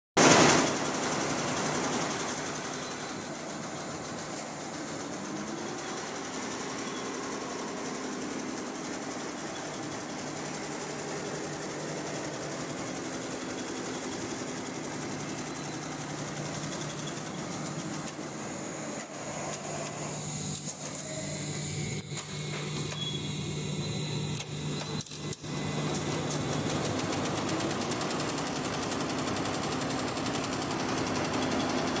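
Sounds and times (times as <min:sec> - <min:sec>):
embroidery machine stitching: 0:00.2 - 0:32.0.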